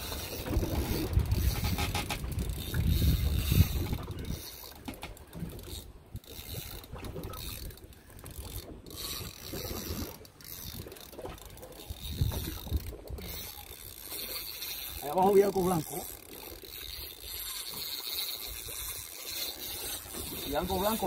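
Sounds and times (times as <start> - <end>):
fishing reel clicking: 0.0 - 21.0.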